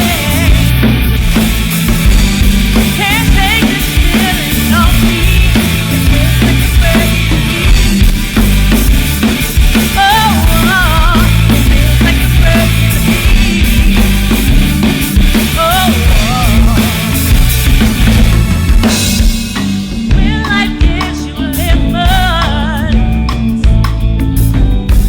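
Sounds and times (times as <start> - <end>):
bending lead melody: 0.0 - 25.0
drum kit beat: 0.0 - 25.0
rock band playing: 0.0 - 25.0.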